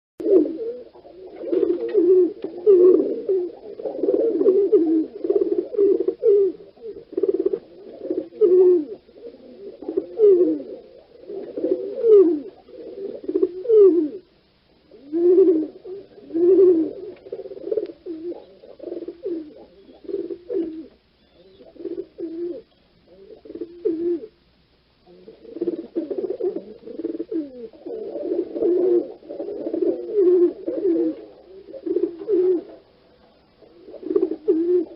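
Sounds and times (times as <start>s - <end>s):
birds giving low calls: 0.2s - 34.9s.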